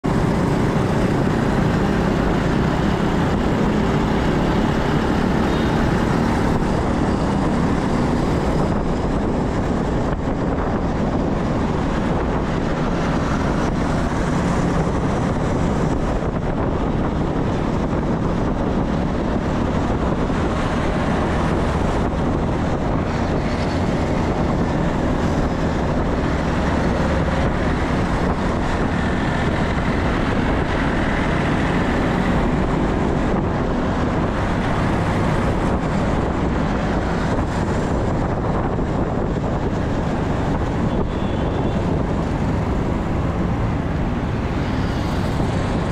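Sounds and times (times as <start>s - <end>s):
road noise: 0.0s - 45.9s
wind rushing over microphone: 0.0s - 45.9s.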